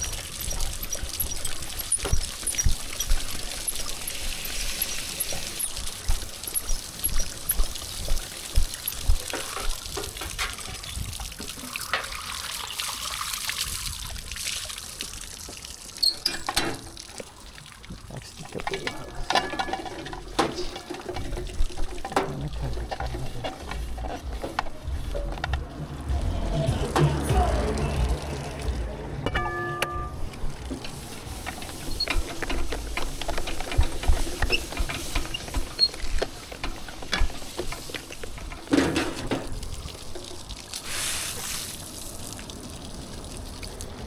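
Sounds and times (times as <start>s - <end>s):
water splashing and trickling: 0.0s - 44.0s.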